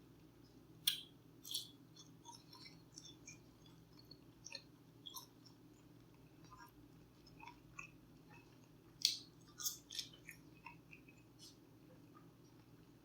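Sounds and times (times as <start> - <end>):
person chewing food: 0.9 - 13.0
crackly noises: 1.5 - 13.0.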